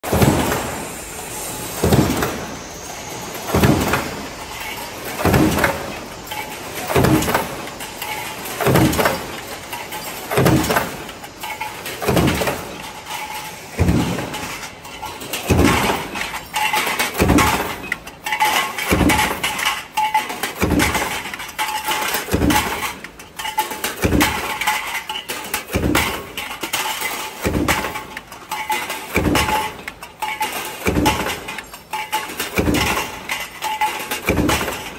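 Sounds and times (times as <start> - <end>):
metal boxes clinking: 3.3 - 34.9.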